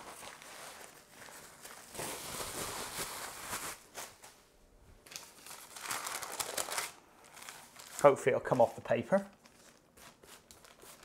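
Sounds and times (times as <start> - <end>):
bubble wrap and paper crinkling: 0.0 - 11.0.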